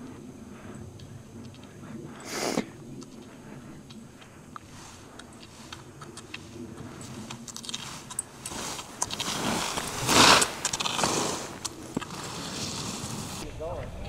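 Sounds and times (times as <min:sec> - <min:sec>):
skis scraping over snow: 0:01.7 - 0:13.5.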